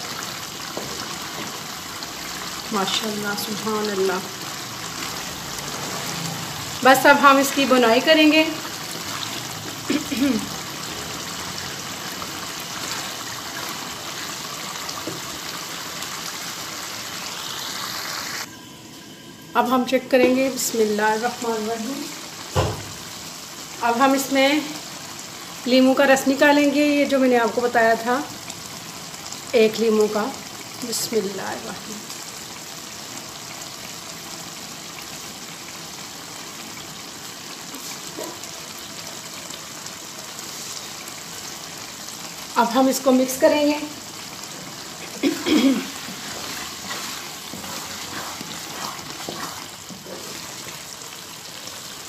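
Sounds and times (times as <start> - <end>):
food sizzling and bubbling in pot: 0.0 - 52.0
water boiling in a pan: 0.0 - 52.0.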